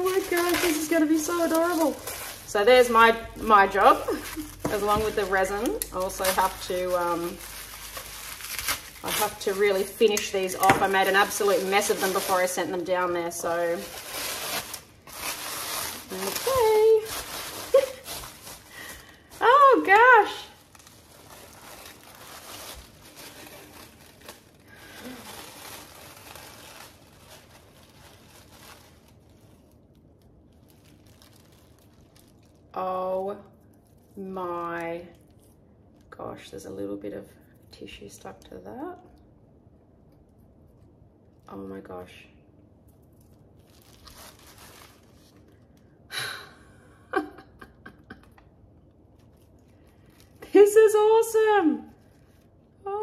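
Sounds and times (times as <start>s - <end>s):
tissue paper crinkling: 0.0s - 35.6s, 42.9s - 46.5s, 49.0s - 52.7s.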